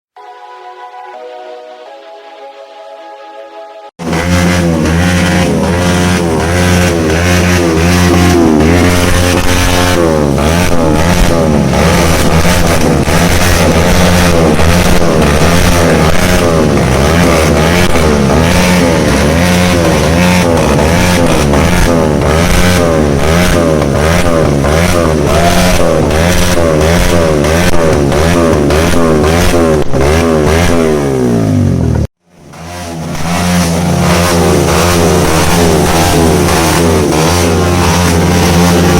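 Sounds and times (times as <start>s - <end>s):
motorcycle engine revving: 4.0s - 38.9s.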